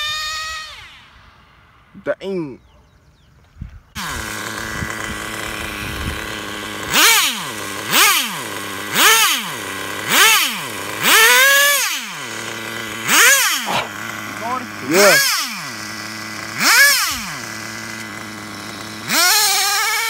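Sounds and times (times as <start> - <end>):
small engine idling and revving: 0.0 - 1.9, 3.9 - 20.0.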